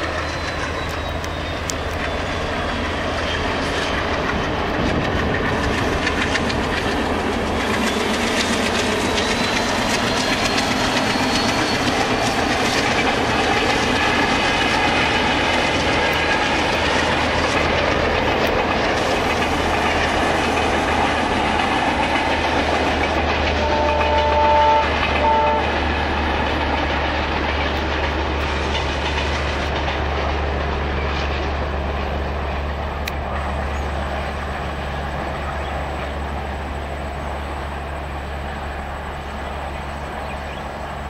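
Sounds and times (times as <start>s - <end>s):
train coaches rumbling on rails: 0.0s - 41.0s.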